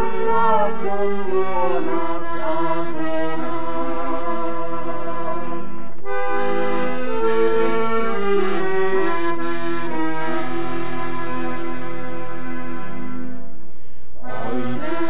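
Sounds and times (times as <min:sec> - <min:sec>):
accordions playing a tune: 0:00.0 - 0:13.5, 0:14.2 - 0:15.0.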